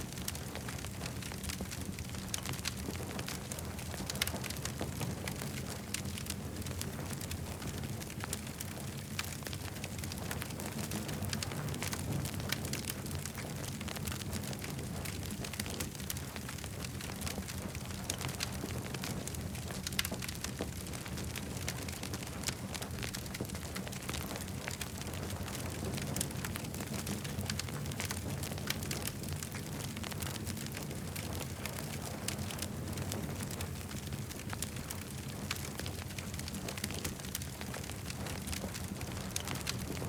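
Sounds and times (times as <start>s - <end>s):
campfire wood crackling: 0.0s - 40.0s
low rumble of flames: 0.0s - 40.0s.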